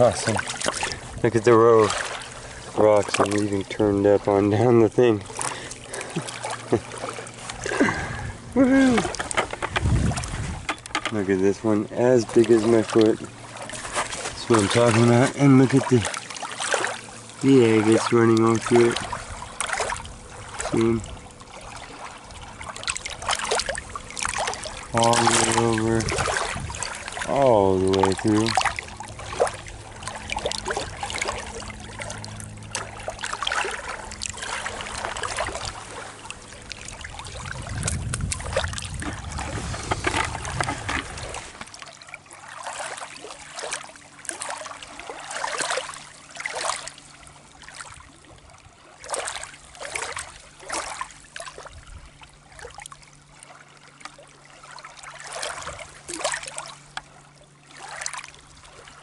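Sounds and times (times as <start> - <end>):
low steady hum: 0.0 - 59.0
small waves lapping among rocks: 0.0 - 59.0.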